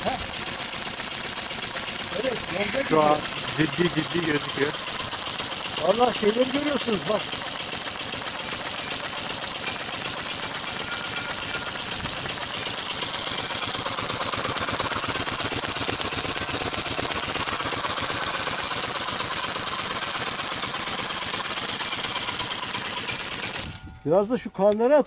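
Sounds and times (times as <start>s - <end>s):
spinning barrel: 0.0s - 23.8s
airsoft minigun rattle: 0.0s - 24.1s.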